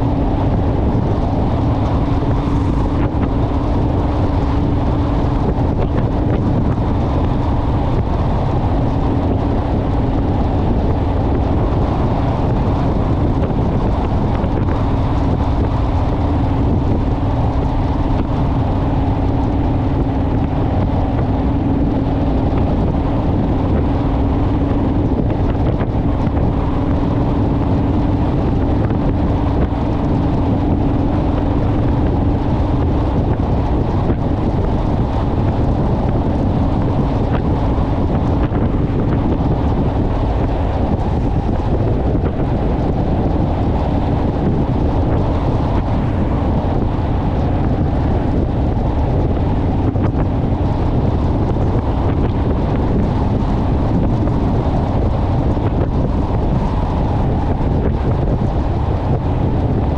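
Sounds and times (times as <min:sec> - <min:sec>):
motorcycle engine hum: 0:00.0 - 0:59.9
wind rushing over microphone: 0:00.0 - 0:59.9.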